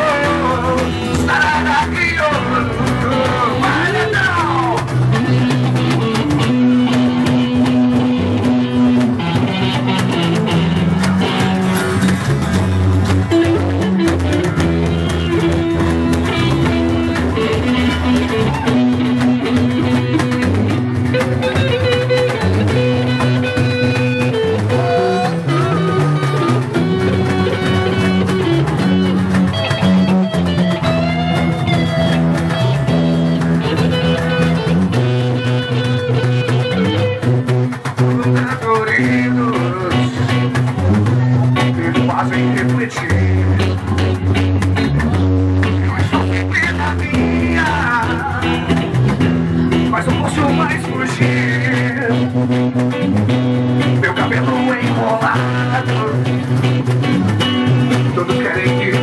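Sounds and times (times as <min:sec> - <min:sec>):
bass and drum kit: 0:00.0 - 0:59.0
electric guitar playing: 0:00.0 - 0:59.0.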